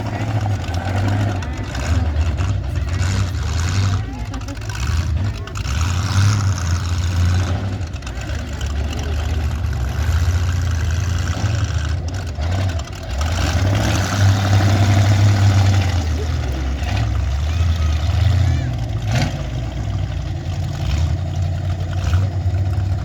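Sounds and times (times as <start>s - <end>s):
car engines droning: 0.0s - 23.0s.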